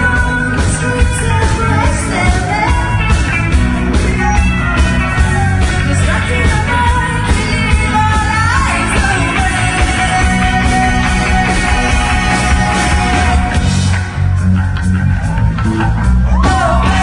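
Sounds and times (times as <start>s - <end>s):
woman singing: 0.0s - 13.6s, 16.3s - 17.0s
live rock band playing: 0.0s - 17.0s.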